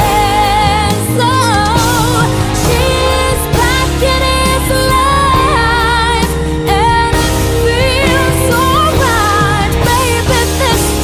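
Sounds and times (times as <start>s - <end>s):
song with sung melody: 0.0s - 11.0s.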